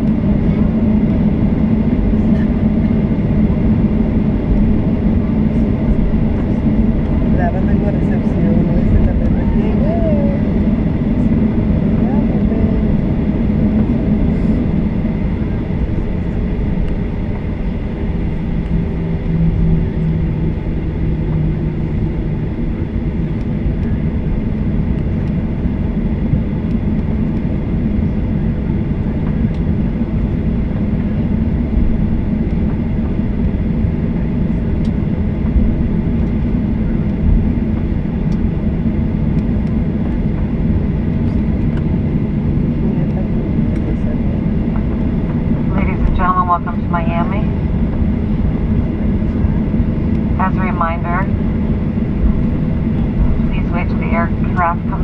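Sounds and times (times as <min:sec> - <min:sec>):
airplane cabin rumble: 0:00.0 - 0:55.0
low hum: 0:00.0 - 0:55.0.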